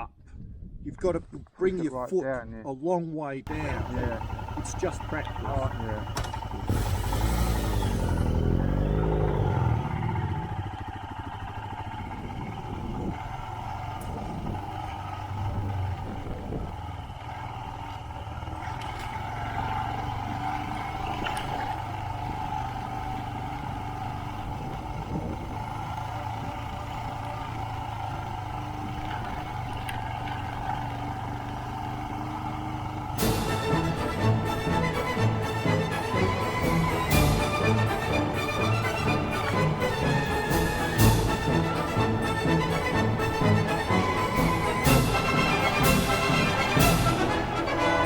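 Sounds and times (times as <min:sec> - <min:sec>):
motorcycle engine running: 0:03.5 - 0:48.0.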